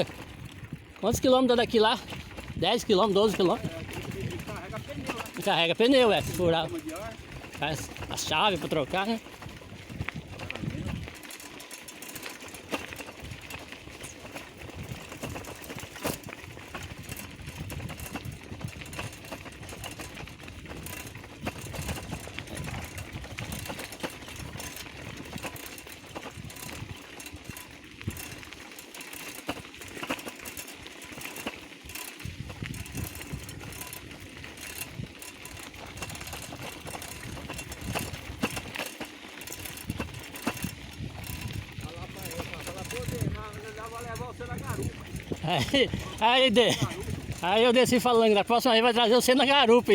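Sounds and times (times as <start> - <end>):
bicycle tyres rolling on rough road: 0.0 - 49.9
bike rattling and knocking: 0.0 - 49.9.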